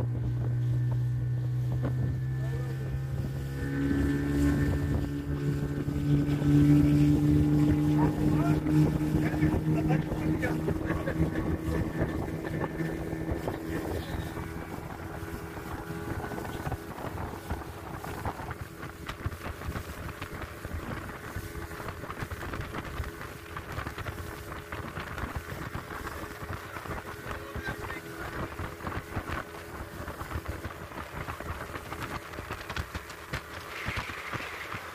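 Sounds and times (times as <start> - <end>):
outboard motor running: 0.0 - 34.9
water rushing along hull: 0.0 - 34.9
wind buffeting microphone: 0.0 - 34.9.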